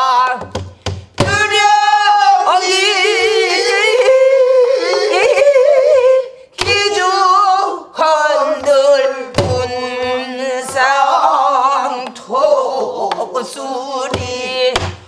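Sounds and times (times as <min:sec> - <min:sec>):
woman singing with vibrato: 0:00.0 - 0:00.6, 0:01.2 - 0:15.0.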